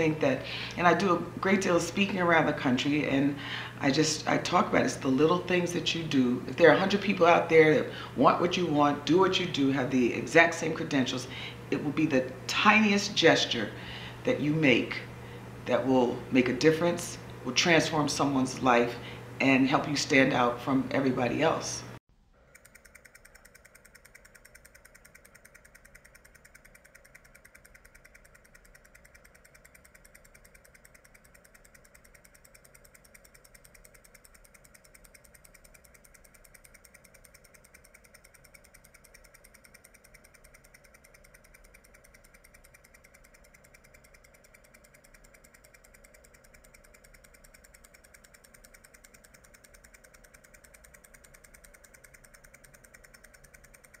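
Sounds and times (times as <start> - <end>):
faint fluttering mechanical hum: 0.0 - 54.0.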